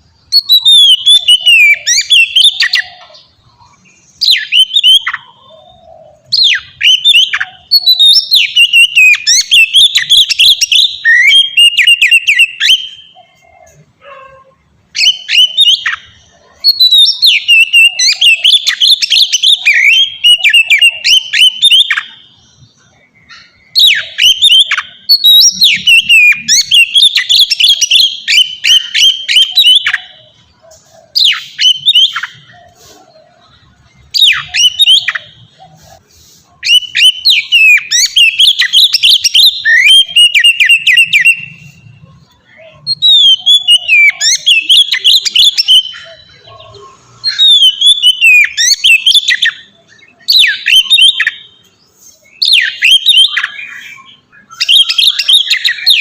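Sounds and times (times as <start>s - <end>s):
bird singing whistled phrases: 0.2s - 3.3s, 4.1s - 56.0s.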